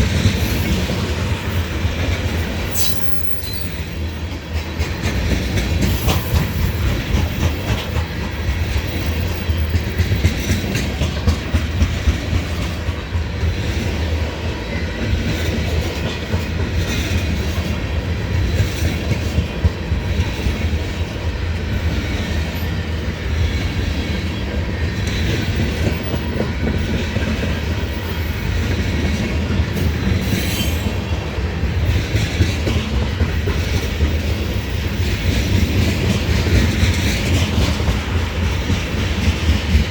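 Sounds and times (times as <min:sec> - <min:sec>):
train rumble: 0:00.0 - 0:39.9
wheels clacking over rail joints: 0:00.0 - 0:39.9.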